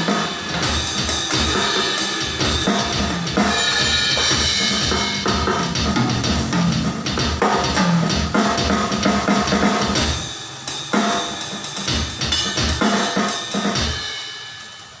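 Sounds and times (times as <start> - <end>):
cymbals ringing: 0.0 - 15.0.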